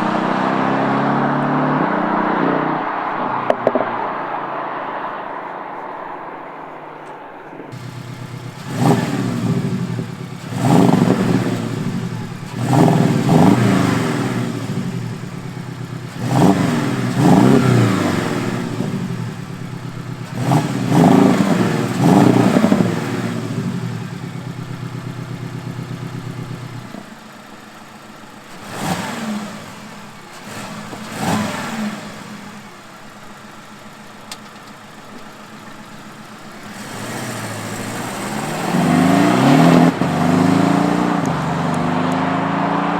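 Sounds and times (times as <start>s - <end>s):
car engine revving and idling: 0.0s - 42.9s.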